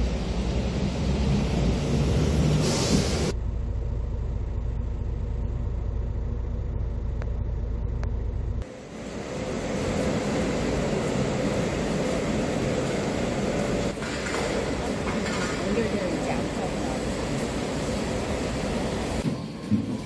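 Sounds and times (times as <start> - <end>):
building interior hum: 0.0 - 19.2
road noise: 0.0 - 19.4
bus engine rumble: 0.0 - 20.0
street noise: 0.0 - 20.0.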